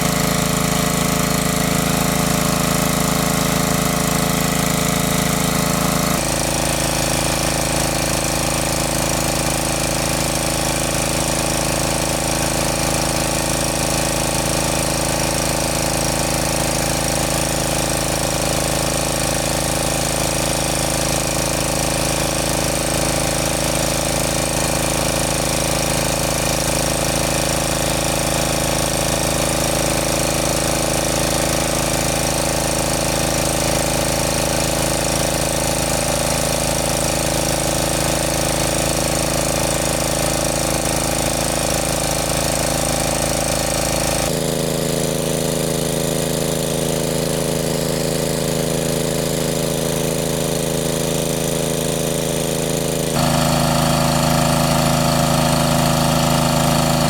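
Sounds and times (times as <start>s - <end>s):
engine-driven water pump running: 0.0s - 57.0s.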